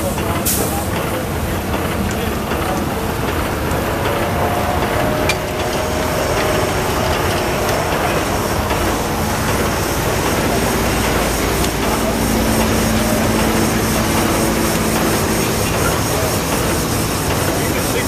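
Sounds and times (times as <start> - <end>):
steam engine mechanical clatter: 0.0 - 18.0.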